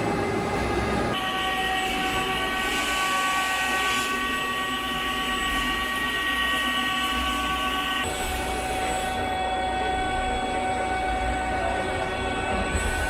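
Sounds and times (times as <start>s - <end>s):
lathe running with high whine: 0.0s - 13.0s.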